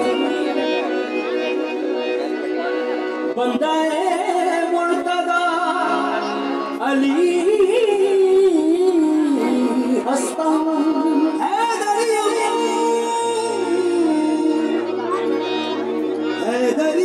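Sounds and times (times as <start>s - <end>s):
man singing ornamented melody: 0.0s - 15.2s, 16.1s - 17.0s
harmonium chords: 0.0s - 17.0s.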